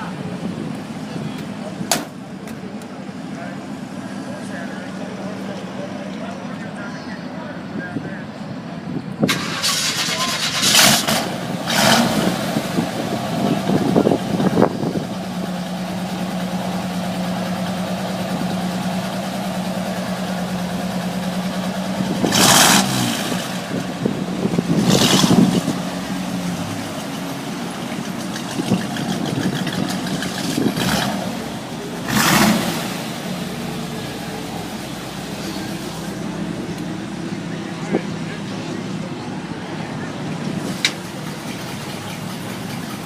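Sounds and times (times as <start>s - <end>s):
truck engine idling and revving: 0.0s - 43.0s.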